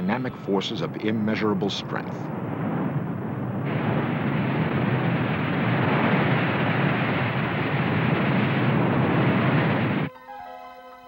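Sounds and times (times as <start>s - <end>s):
lava fountain deep rushing: 0.5s - 10.1s.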